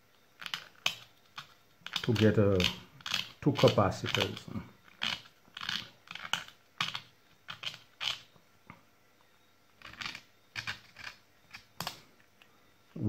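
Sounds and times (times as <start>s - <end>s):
battery cells clicking together: 0.4s - 8.4s, 9.8s - 12.5s.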